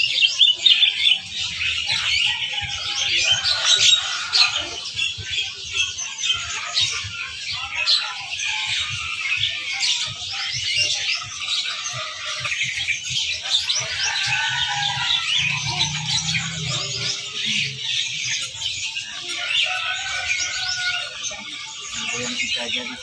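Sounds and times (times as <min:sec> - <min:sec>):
songbirds chirping and twittering: 0:00.0 - 0:23.0.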